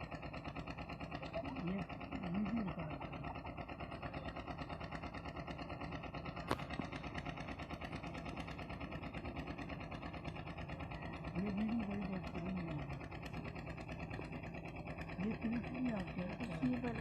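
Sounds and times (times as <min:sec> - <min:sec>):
motor running with fast pulsing: 0:00.0 - 0:17.0.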